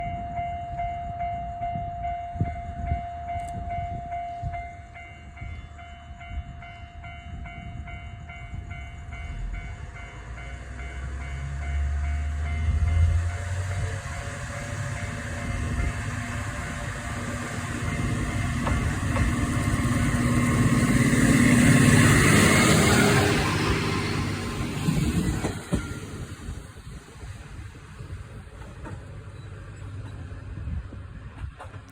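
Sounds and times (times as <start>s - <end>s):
steady high tone: 0.0s - 26.8s
diesel railcar engine rumbling: 0.0s - 31.9s.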